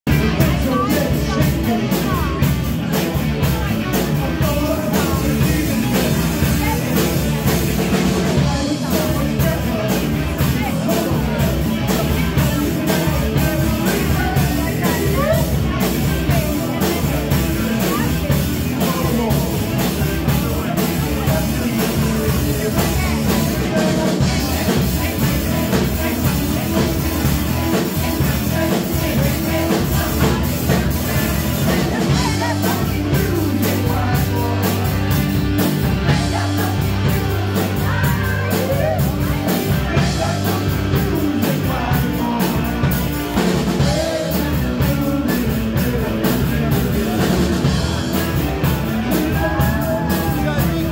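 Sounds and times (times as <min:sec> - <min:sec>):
bass guitar: 0:00.0 - 0:50.9
drums: 0:00.0 - 0:50.9
electric guitars: 0:00.0 - 0:50.9
man singing into a microphone: 0:00.1 - 0:50.9.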